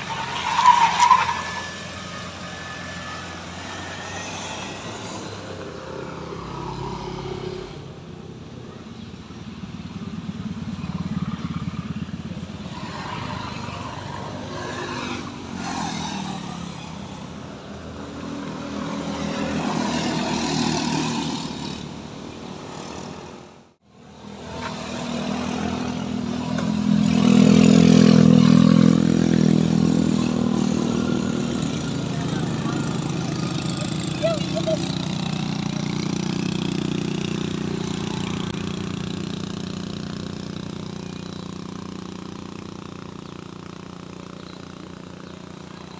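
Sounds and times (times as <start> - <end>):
cars driving uphill: 0.0 - 45.9
scooters revving past: 0.0 - 45.9.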